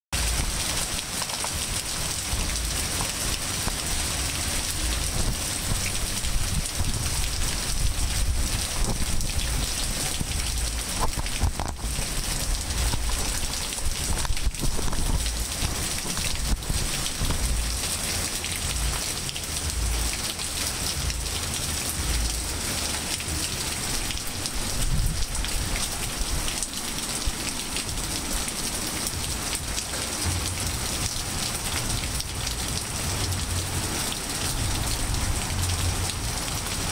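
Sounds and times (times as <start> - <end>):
rain falling: 0.2 - 36.9.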